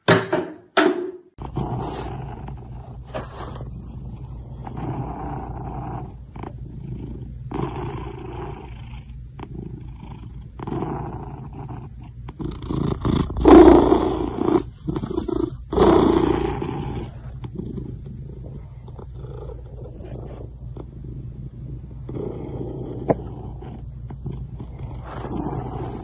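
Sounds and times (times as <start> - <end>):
cat purring: 1.4 - 26.0.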